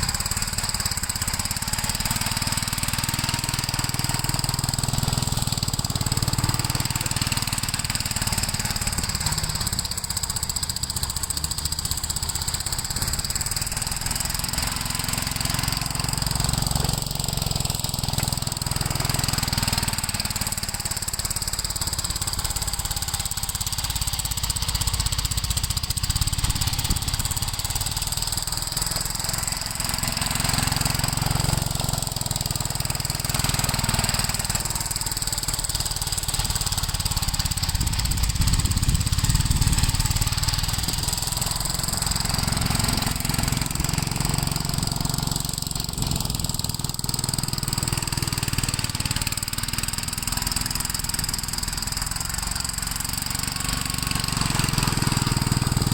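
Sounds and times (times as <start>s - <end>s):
tractor engine rumbling: 0.0s - 55.9s.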